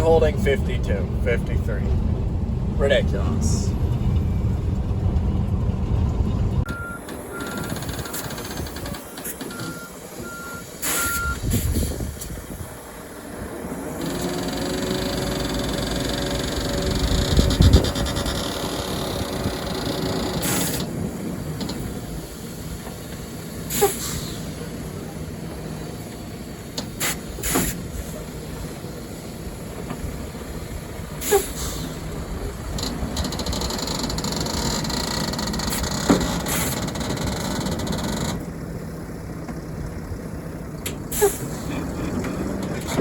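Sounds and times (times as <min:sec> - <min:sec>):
truck engine and road rumble: 0:00.0 - 0:43.0.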